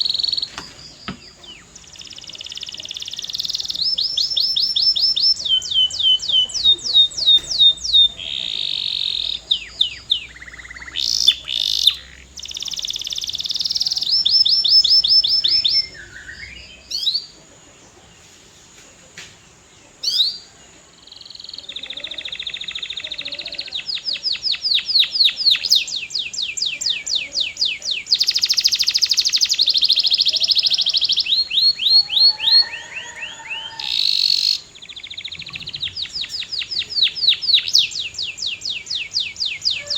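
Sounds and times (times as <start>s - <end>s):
canary singing: 0.0s - 17.4s, 21.1s - 39.9s.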